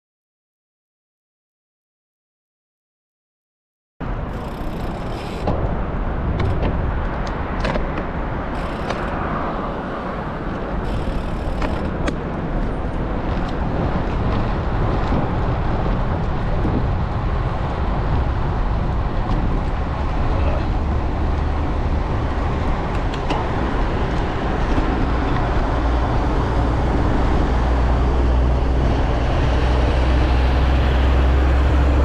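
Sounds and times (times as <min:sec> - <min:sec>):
road rumble: 0:04.0 - 0:32.0
wind buffeting microphone: 0:04.0 - 0:32.0.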